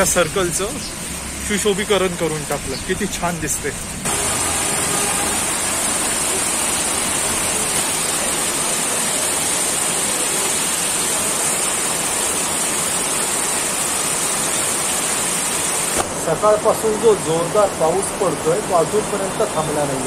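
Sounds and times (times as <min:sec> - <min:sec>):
heavy rain on a paved road: 0:00.0 - 0:20.0.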